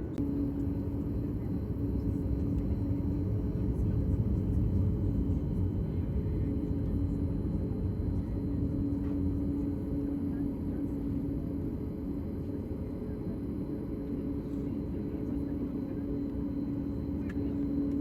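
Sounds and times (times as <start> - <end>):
aircraft engine rumble: 0.0 - 18.0
constant cabin hum: 0.0 - 18.0.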